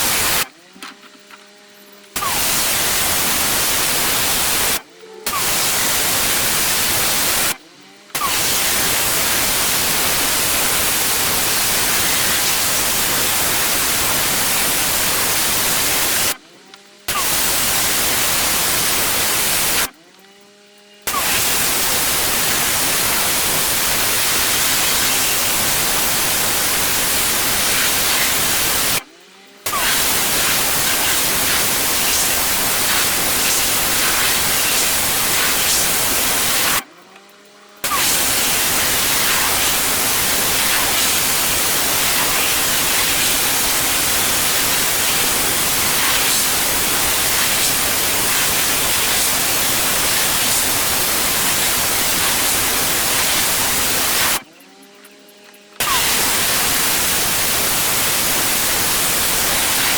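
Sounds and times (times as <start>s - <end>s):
pressure washer spraying: 0.0s - 0.5s, 2.2s - 7.6s, 8.2s - 16.4s, 17.1s - 19.9s, 21.1s - 29.1s, 29.7s - 36.8s, 37.8s - 54.4s, 55.8s - 59.9s.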